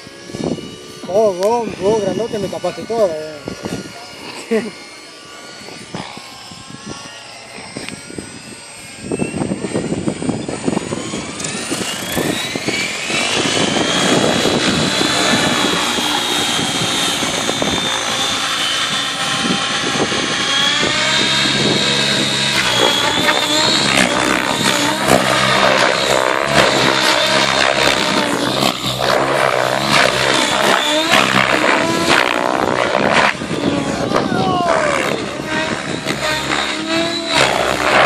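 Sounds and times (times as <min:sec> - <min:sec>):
motor and rotor whine: 0:00.0 - 0:38.0
rotor blades beating: 0:00.0 - 0:38.0.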